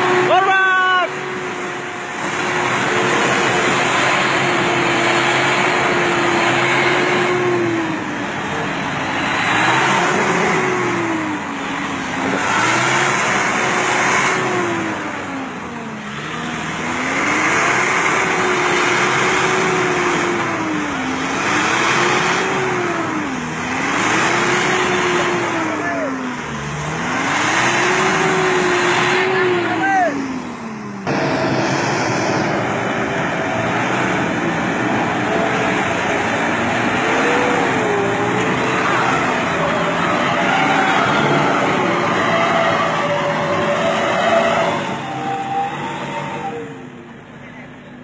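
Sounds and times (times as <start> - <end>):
pickup truck engine revving hard: 0.0 - 46.8.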